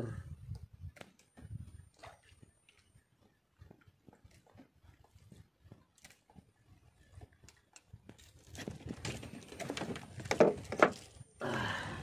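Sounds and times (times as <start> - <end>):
fishing gear rustling and knocking: 0.5 - 11.4.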